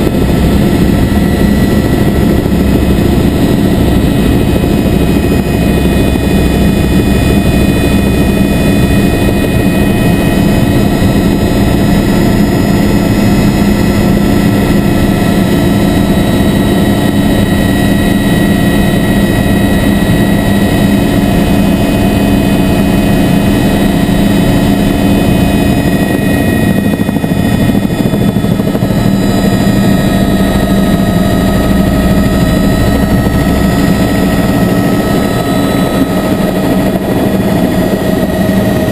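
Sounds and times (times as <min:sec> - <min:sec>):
helicopter engine and rotor: 0:00.0 - 0:38.9
whining tones: 0:00.0 - 0:38.9.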